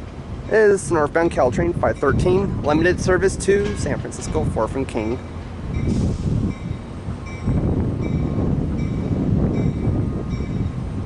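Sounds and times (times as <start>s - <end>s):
train rolling rumble: 0.0s - 11.0s.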